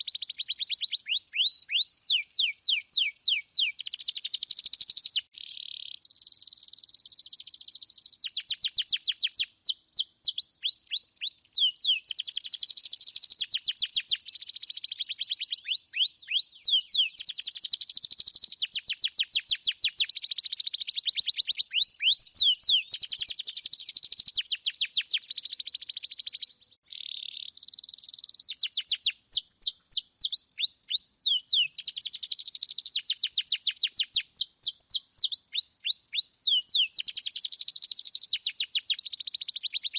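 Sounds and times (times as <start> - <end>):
canary singing trills: 0.0 - 39.9
fast falling whistles: 0.0 - 39.9.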